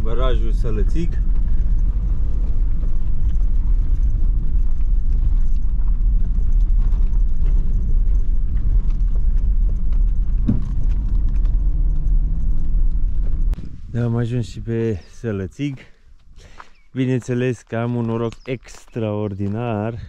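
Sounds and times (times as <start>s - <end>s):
tyres and engine rumble: 0.0s - 20.0s.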